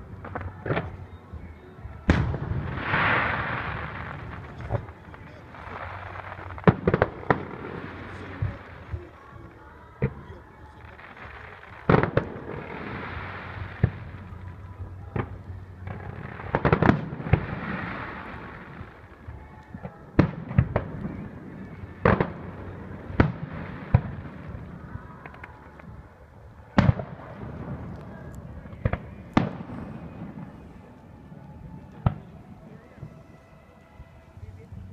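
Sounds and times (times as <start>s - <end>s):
fireworks bursting: 0.0s - 33.6s
background haze: 0.0s - 34.9s.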